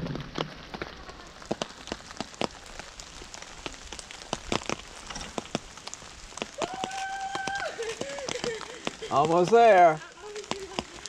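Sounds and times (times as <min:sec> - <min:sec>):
footsteps on pavement: 0:00.7 - 0:11.0.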